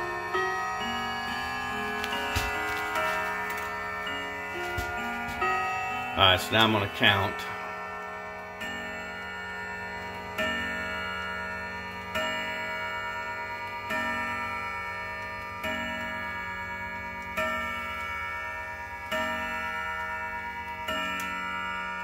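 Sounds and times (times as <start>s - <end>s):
clock chime striking: 0.0s - 22.0s.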